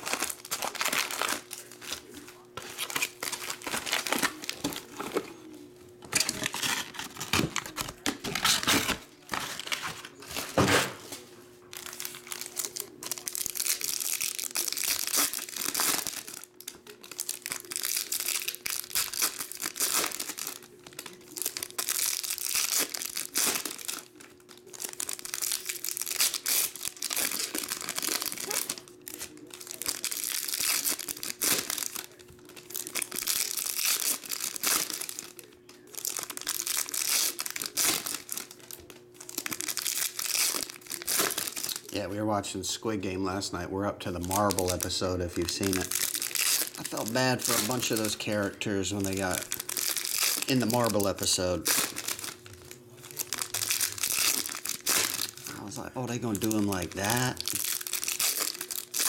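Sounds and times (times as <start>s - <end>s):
foil packs tearing and crinkling: 0.0s - 5.4s, 6.0s - 11.0s, 11.7s - 42.8s, 44.0s - 59.0s
cards rustling: 0.0s - 42.1s, 44.0s - 59.0s.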